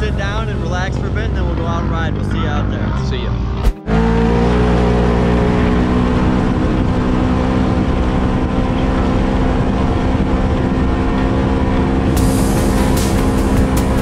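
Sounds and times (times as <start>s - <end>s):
vehicle engine at high throttle: 0.0s - 14.0s.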